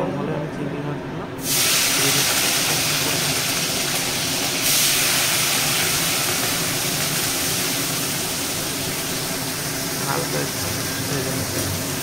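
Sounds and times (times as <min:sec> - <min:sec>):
shrimp sizzling in hot oil: 0:01.4 - 0:12.0.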